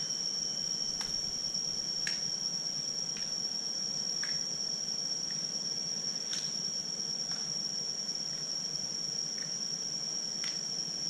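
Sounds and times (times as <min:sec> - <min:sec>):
insects singing drone: 0:00.0 - 0:11.0.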